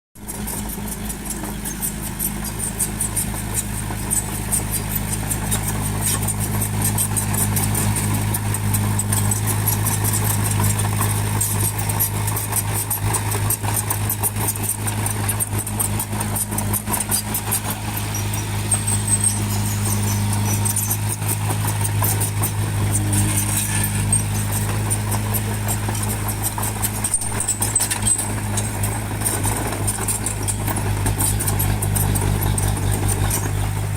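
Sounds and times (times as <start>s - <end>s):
fast high rattle: 0.2s - 33.9s
heavy diesel engine running: 0.2s - 33.9s.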